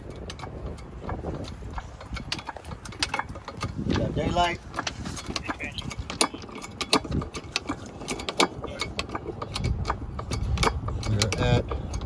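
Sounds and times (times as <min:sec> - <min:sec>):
jack pumping metallic clicks: 0:00.0 - 0:12.0.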